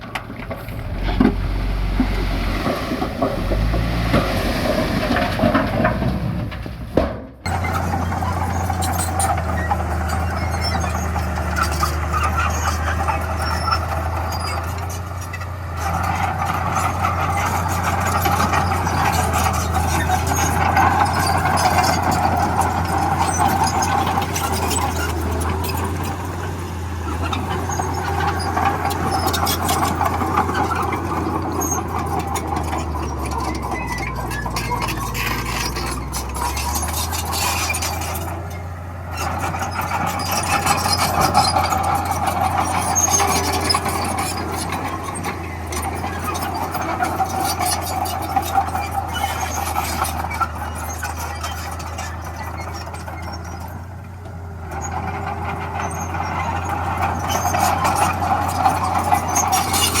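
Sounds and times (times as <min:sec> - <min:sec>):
bulldozer engine drone: 0:00.0 - 1:00.0.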